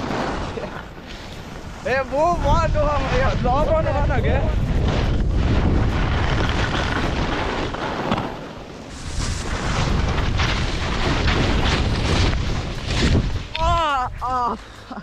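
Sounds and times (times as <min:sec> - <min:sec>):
wind buffeting microphone: 0:00.9 - 0:07.8, 0:08.9 - 0:14.2.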